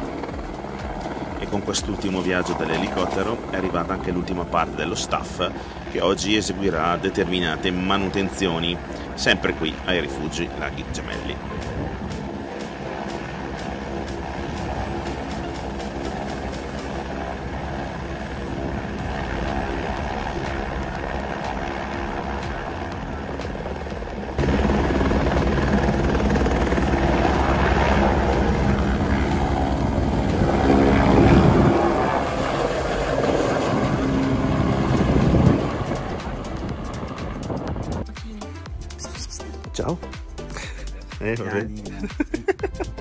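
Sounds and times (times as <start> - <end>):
helicopter rotor and turbine: 0.0 - 43.0.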